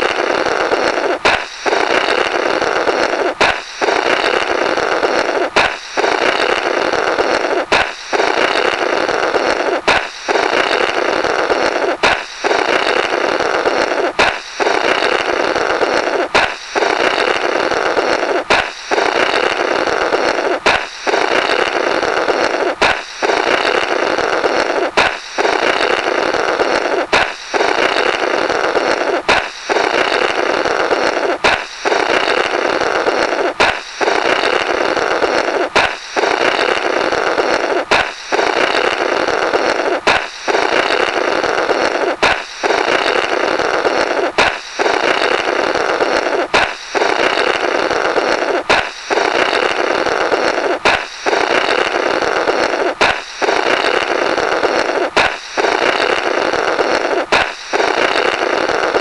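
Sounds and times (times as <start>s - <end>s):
balloon pop: 0.0s - 59.0s
buzzy raspberry air blowing: 0.0s - 59.0s.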